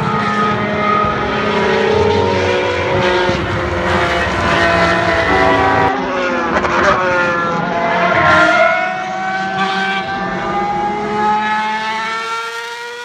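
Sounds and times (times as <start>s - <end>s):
racing car engine passing: 0.0s - 13.0s.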